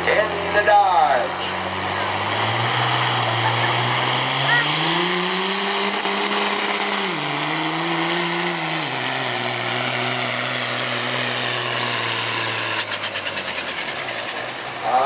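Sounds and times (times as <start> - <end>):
diesel engine at full throttle: 0.0 - 15.0.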